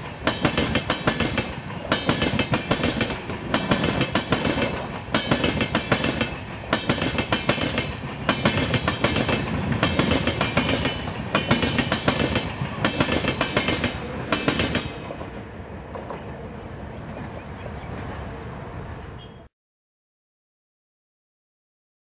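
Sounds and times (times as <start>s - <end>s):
train rumble: 0.0s - 19.5s.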